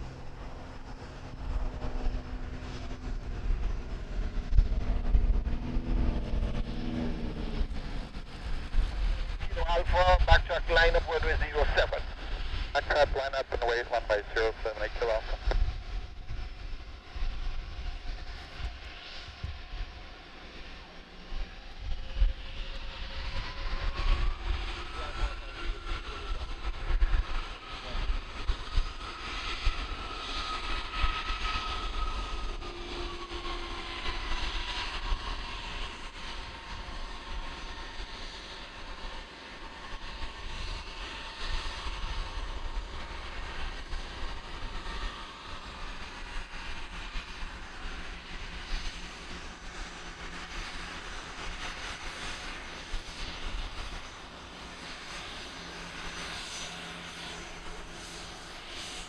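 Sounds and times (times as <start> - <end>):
gusty low rumble: 0.0 - 55.5
jet engine rush: 0.0 - 59.0
jet engine whine: 0.0 - 59.0.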